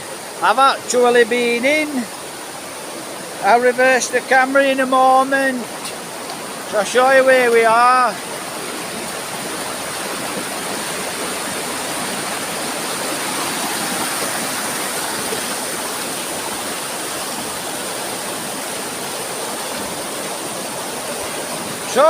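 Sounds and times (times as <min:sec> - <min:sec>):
waterfall and river rushing: 0:00.0 - 0:22.0.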